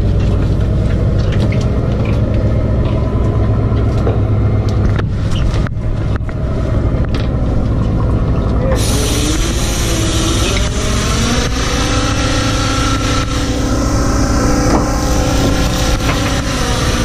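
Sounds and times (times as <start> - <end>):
engine and winch humming: 0.0 - 17.0.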